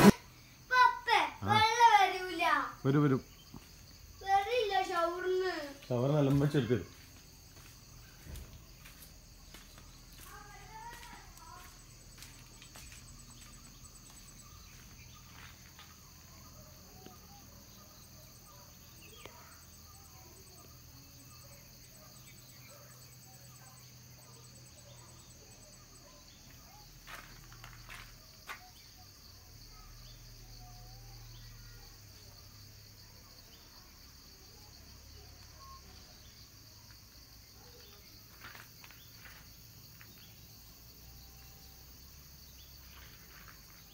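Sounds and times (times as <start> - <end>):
insect buzz: 0.0 - 43.9.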